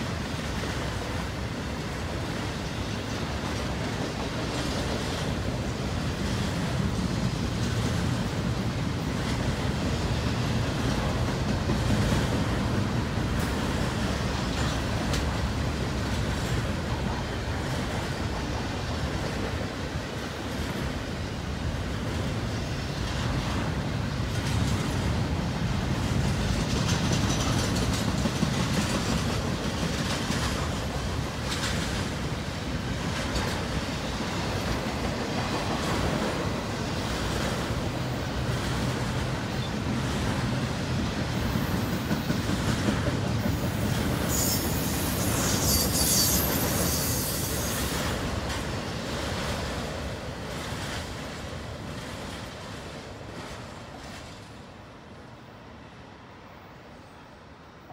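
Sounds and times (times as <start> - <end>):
steel wheels rumbling on rail: 0.0 - 57.9.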